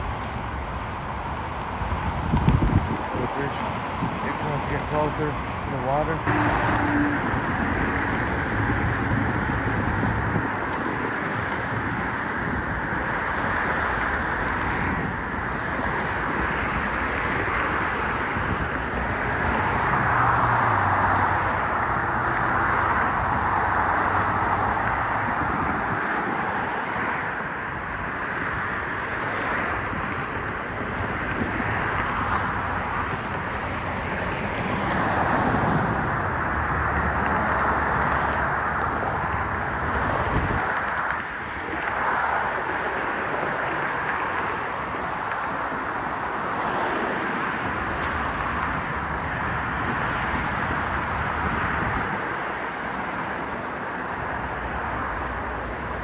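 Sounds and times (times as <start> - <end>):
wind on microphone: 0.0 - 5.5, 6.2 - 56.0
passing road traffic: 0.0 - 56.0.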